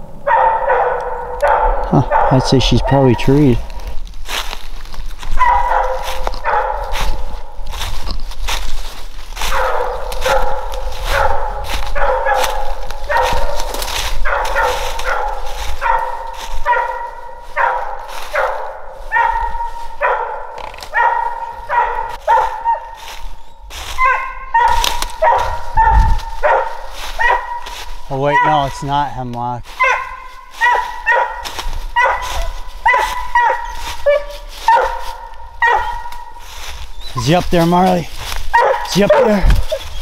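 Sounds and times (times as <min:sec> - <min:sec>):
hound barking: 0:00.0 - 0:04.6, 0:05.2 - 0:40.0.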